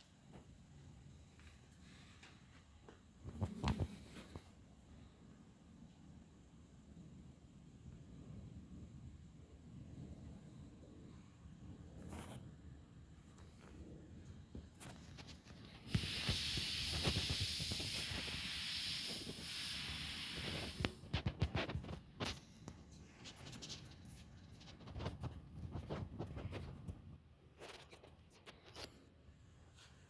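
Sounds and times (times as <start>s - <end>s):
steady hiss: 0.0s - 25.3s.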